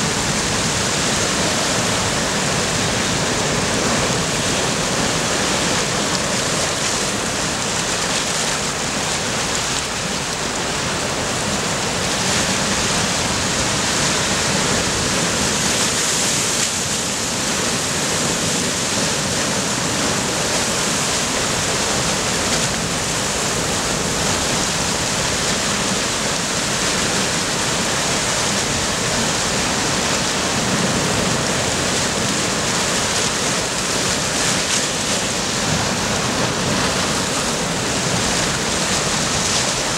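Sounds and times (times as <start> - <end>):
surf breaking over rocks: 0.0 - 39.9.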